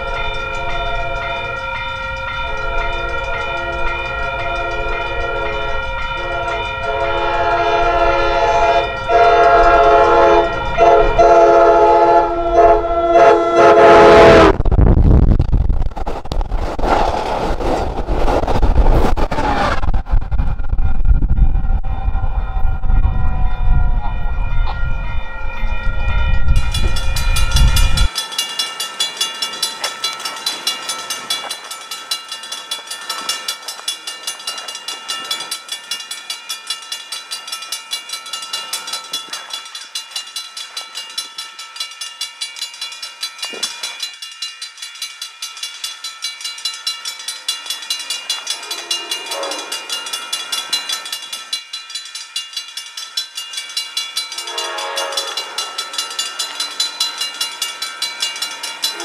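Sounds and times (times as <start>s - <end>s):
railroad crossing bells ringing: 0.0s - 14.6s, 21.2s - 59.0s.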